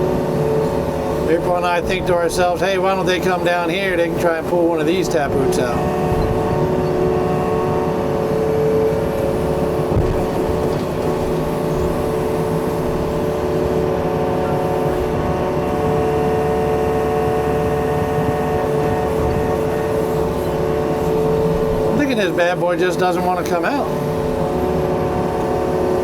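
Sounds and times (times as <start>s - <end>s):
excavator diesel engine under load: 0.0s - 26.0s.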